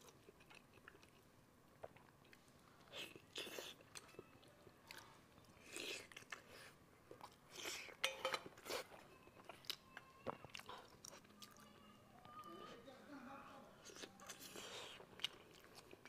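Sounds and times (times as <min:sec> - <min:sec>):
person chewing: 0:00.0 - 0:11.9, 0:13.8 - 0:16.0.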